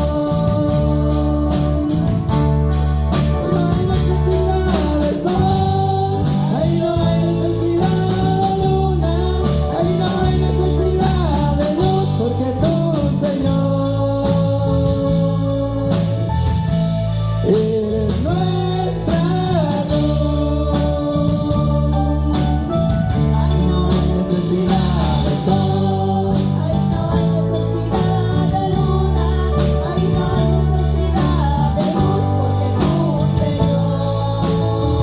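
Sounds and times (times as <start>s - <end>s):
bass: 0.0s - 35.0s
person singing slow melody: 0.0s - 35.0s
steady drum beat: 0.0s - 35.0s
sustained keyboard chords: 0.0s - 35.0s.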